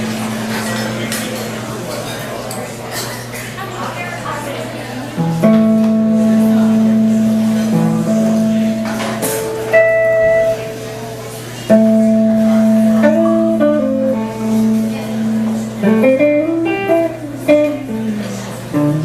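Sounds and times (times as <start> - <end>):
guitar playing slow chords: 0.0 - 2.5, 5.2 - 19.0.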